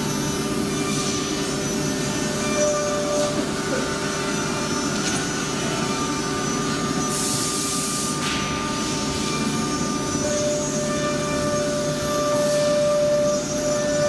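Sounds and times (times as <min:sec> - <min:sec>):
woodworking machinery humming: 0:00.0 - 0:14.0.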